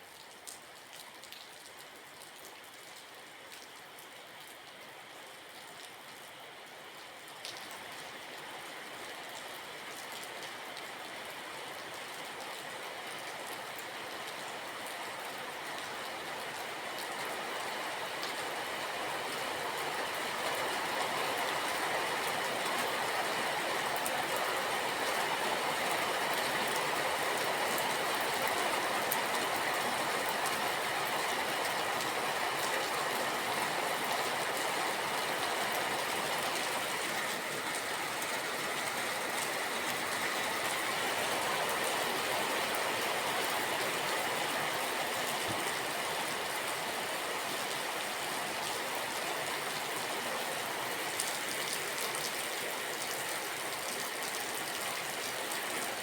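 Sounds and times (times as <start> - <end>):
steady rain: 0.0 - 56.0
ticks of raindrops: 0.0 - 56.0.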